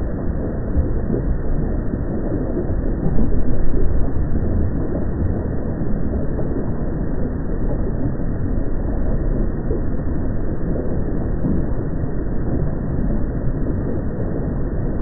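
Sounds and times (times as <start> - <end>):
low rumbling roar of volcano: 0.0 - 15.0.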